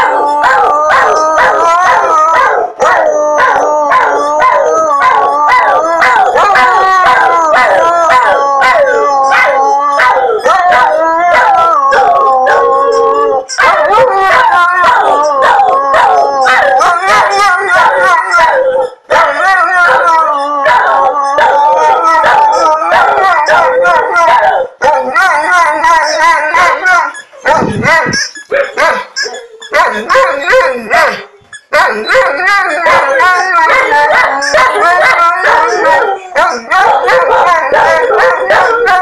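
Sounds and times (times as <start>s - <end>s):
dogs howling: 0.0s - 39.0s.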